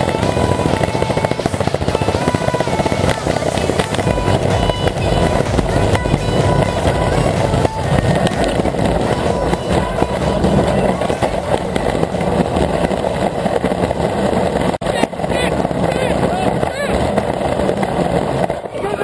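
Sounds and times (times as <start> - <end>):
shopping cart wheels rattling: 0.0 - 19.0.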